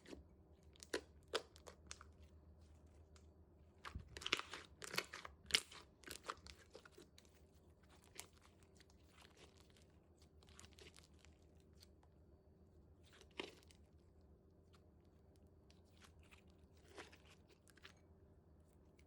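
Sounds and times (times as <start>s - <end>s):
crinkling and crackling: 0.0s - 12.1s, 14.7s - 18.1s.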